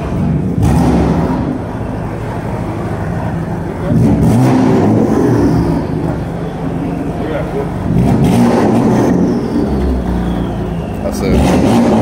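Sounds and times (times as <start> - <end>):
car engine pulling away: 0.0 - 12.0.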